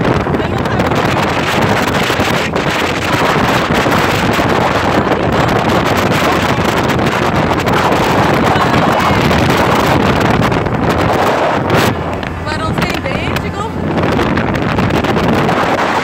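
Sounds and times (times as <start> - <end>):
boat engine: 0.0 - 16.0
water noise: 0.0 - 16.0
wind on microphone: 0.0 - 16.0.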